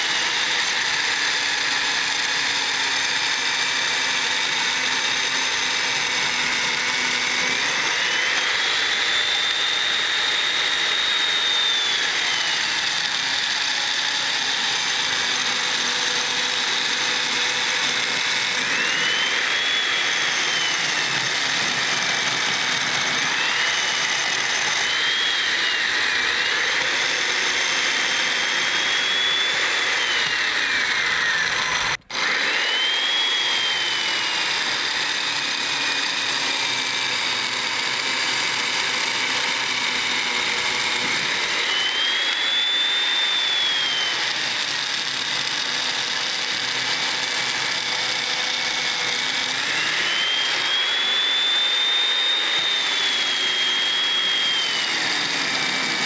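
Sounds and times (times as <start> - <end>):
electric chain mortiser motor whine: 0.0 - 56.0.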